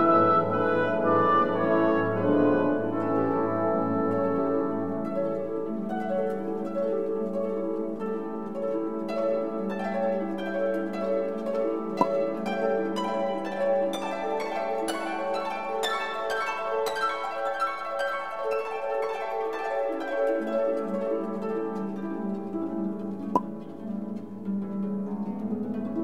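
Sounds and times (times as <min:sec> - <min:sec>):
harp and pizzicato strings music: 0:00.0 - 0:26.0.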